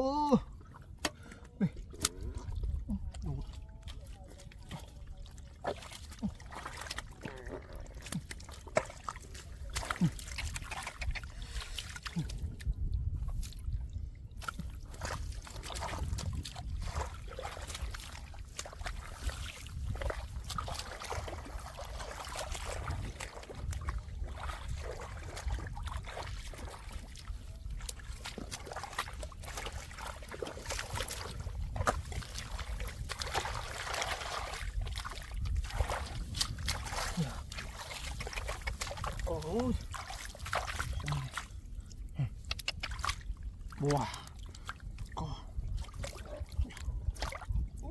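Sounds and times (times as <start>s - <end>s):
muddy water sloshing and splashing: 0.0s - 47.9s.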